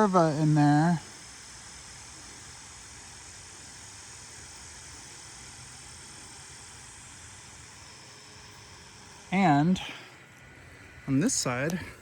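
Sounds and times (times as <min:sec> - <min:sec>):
honeybee colony humming: 0:00.0 - 0:12.0.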